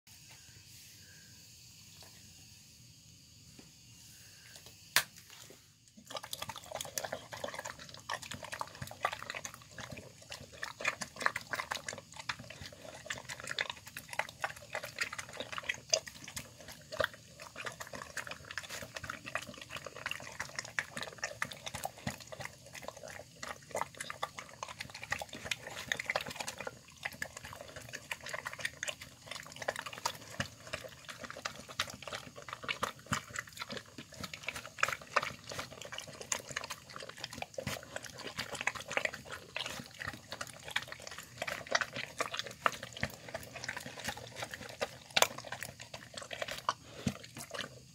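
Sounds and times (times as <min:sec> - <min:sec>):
dog slurping and chewing: 0:06.0 - 0:47.9.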